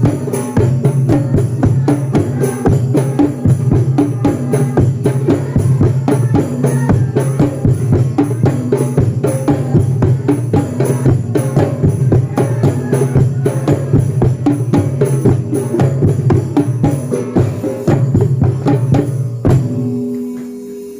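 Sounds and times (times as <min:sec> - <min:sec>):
rapid drum strikes: 0:00.0 - 0:20.4.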